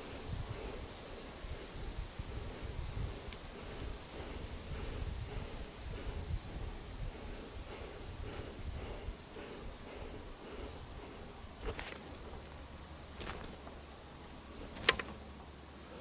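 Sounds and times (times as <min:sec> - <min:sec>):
insect high-pitched trill: 0:00.0 - 0:16.0.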